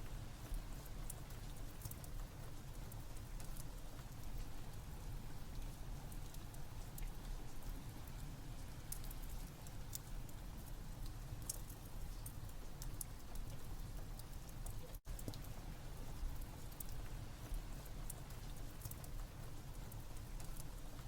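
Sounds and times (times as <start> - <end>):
rain: 0.0 - 21.0
wood fire crackling: 0.4 - 21.0.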